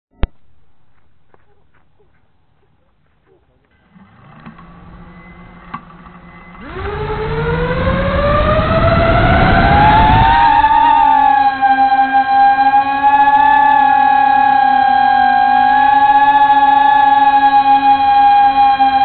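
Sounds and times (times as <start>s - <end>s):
drone motors whining: 3.7s - 19.0s.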